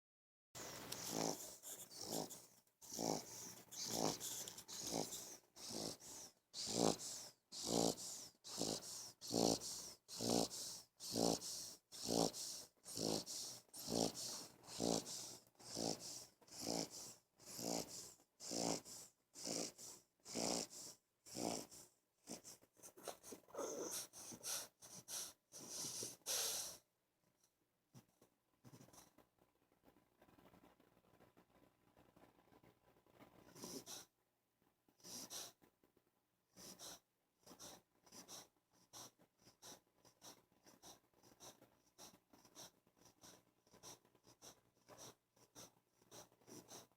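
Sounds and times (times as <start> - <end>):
puppy snoring loudly: 0.6 - 26.8, 33.4 - 34.1, 35.0 - 35.6, 36.5 - 46.9.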